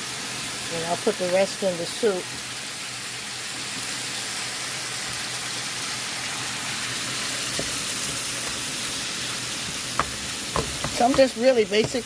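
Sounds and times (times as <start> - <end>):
meat and onions sizzling in a pan: 0.0 - 12.0.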